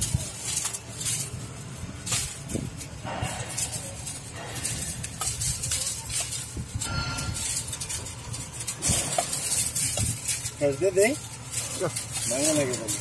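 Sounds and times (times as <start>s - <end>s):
metal wires scraping and rustling: 0.0s - 13.0s.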